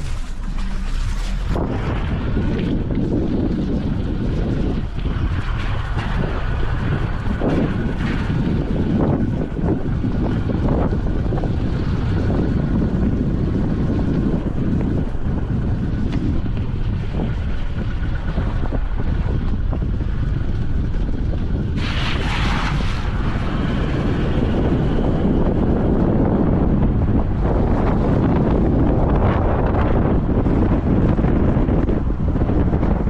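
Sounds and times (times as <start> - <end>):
vehicle engine and road rumble: 0.0 - 33.0
wind buffeting microphone: 0.0 - 33.0.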